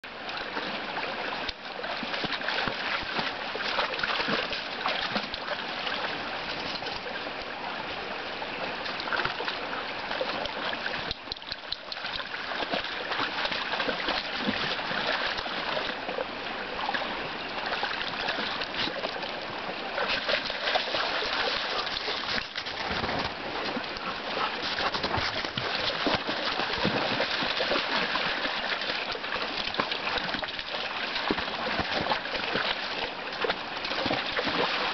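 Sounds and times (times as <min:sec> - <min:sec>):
stream running over rocks: 0:00.0 - 0:34.9
dogs splashing in water: 0:01.5 - 0:07.0, 0:08.8 - 0:34.9.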